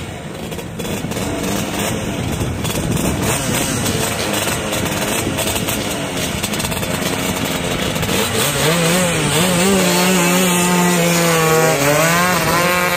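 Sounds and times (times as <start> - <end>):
two-stroke scooter engines revving: 0.0 - 12.9.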